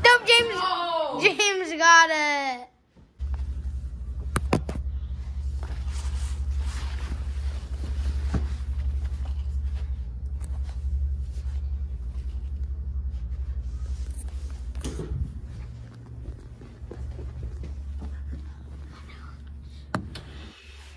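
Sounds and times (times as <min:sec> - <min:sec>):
low fluttering rumble: 0:03.2 - 0:20.8.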